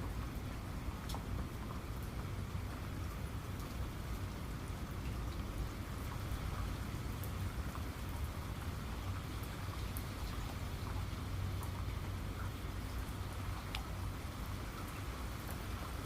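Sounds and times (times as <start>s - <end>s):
rain falling: 0.0s - 16.0s
raindrops ticking on a surface: 0.0s - 16.0s.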